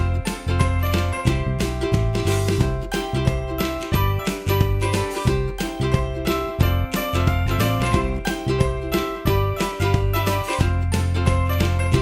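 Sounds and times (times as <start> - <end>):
upbeat music with steady beat: 0.0 - 12.0.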